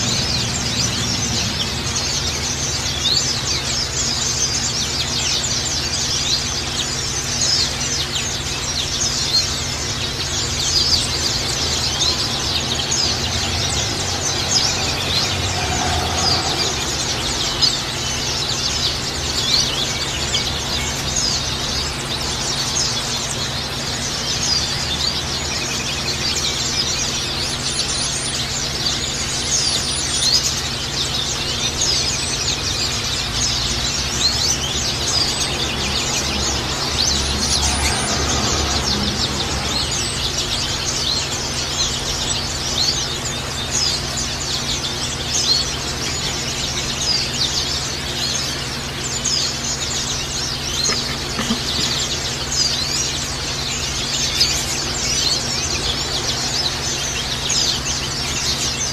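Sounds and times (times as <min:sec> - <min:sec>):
birds chattering and chirping: 0:00.0 - 0:58.9.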